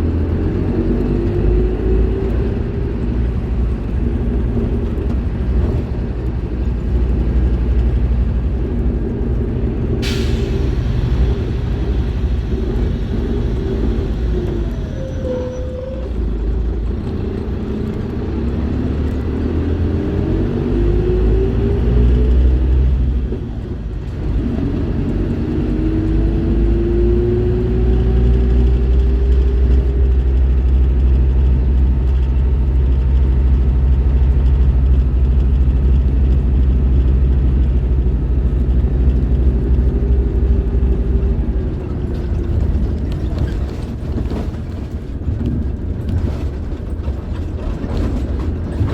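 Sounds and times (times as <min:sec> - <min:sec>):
bus diesel engine pulling: 0:00.0 - 0:48.9.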